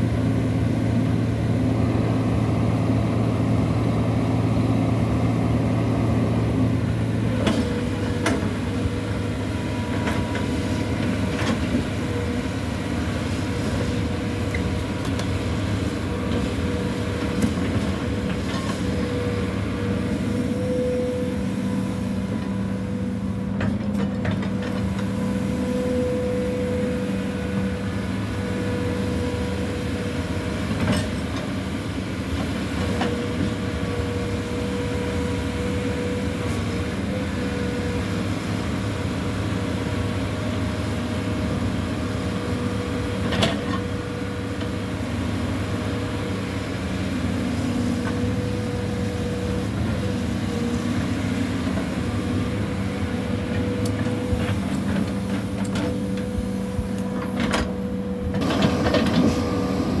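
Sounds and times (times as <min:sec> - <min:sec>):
excavator diesel engine: 0:00.0 - 1:00.0.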